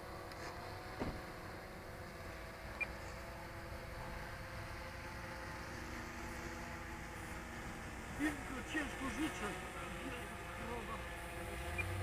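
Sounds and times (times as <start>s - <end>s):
model plane electric motor drone: 0.0s - 12.0s.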